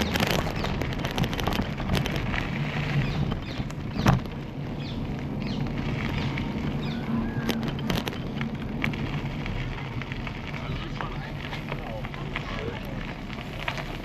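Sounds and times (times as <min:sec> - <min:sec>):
bicycle tyres rolling on path: 0:00.0 - 0:14.0
wind buffeting microphone: 0:00.0 - 0:14.0.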